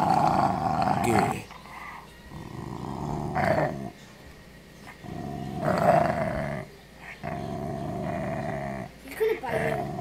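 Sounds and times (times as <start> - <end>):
dog growling: 0.0 - 4.0, 4.8 - 10.0.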